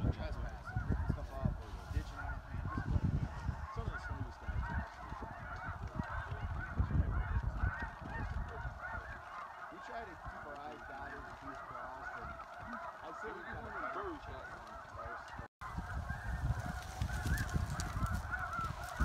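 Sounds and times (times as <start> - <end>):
geese honking: 0.1 - 19.0.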